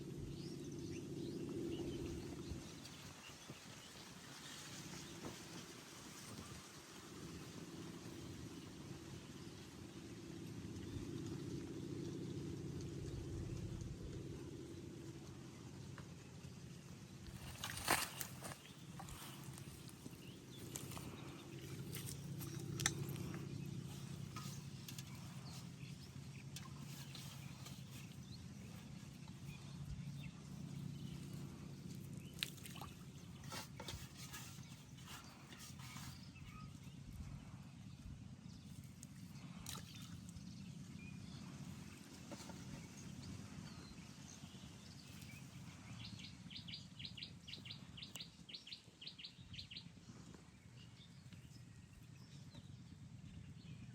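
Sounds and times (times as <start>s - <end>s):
low steady rumble: 0.0s - 53.9s.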